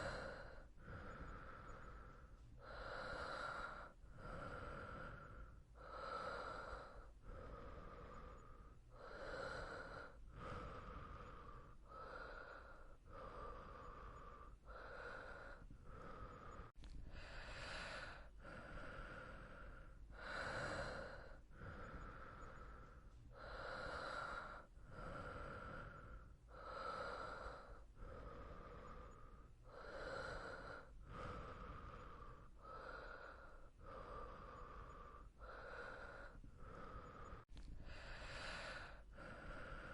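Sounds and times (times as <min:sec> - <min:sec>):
person breathing in and out: 0:00.0 - 0:39.9.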